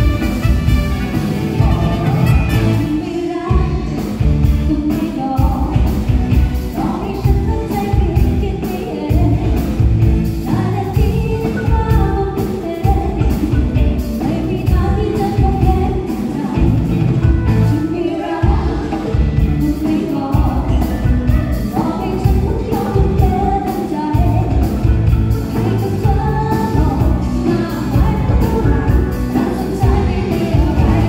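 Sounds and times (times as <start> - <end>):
live band with singer: 0.0 - 31.0.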